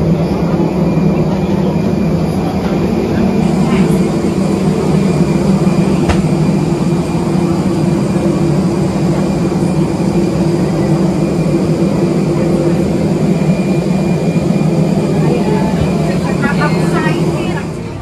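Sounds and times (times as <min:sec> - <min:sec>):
loud machine drone: 0:00.0 - 0:18.0.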